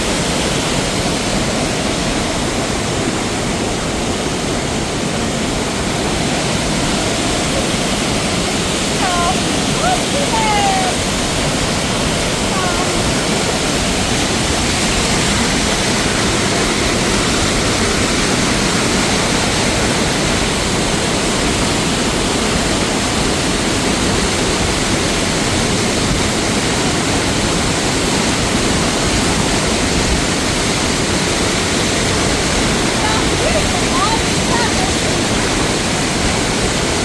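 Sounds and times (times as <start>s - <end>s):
fast-flowing mountain water: 0.0s - 37.0s.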